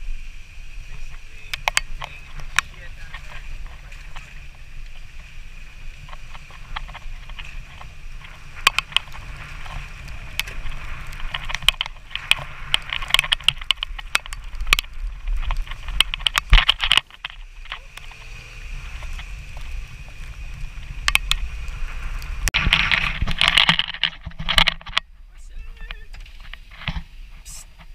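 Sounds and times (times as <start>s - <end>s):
low road rumble: 0.0s - 27.9s
wind noise: 0.0s - 27.9s.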